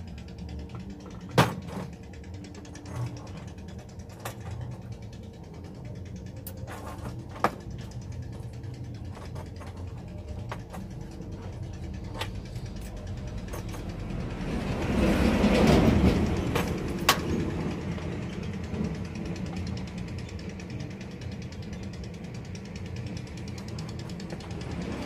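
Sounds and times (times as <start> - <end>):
low hum and rumble: 0.0 - 25.0.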